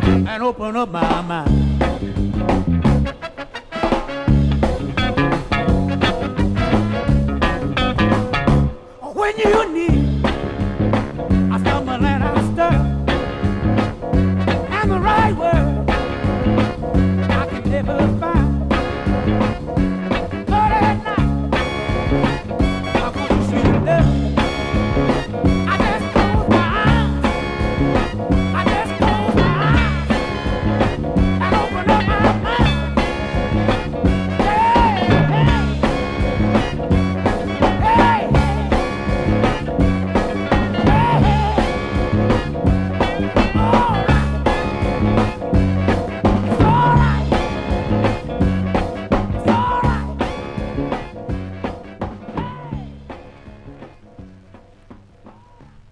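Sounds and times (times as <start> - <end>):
instrumental soul music: 0.0 - 55.9.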